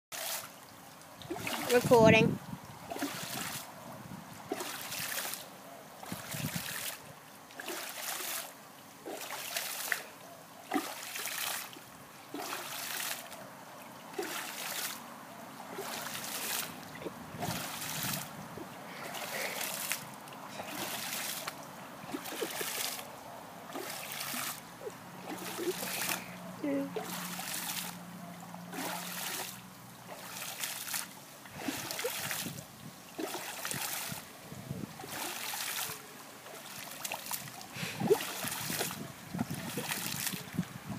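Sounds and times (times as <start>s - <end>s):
pool water splashing and churning: 0.1s - 40.9s.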